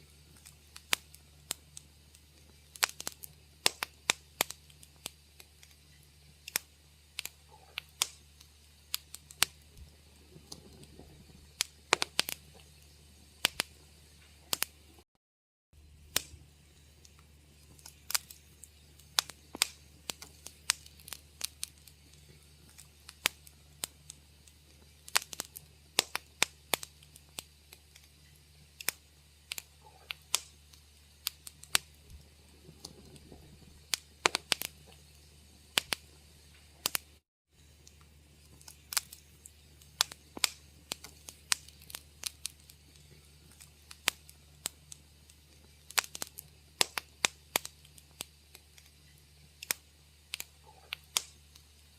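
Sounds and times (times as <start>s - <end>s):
steady low hum: 0.0s - 15.0s, 15.8s - 51.9s
wood fire crackling: 0.0s - 15.0s, 15.8s - 51.9s.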